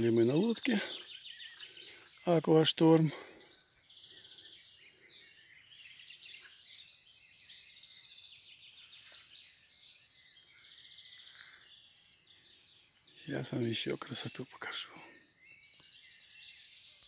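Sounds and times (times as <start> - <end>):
songbirds chirping and trilling: 0.0 - 17.0.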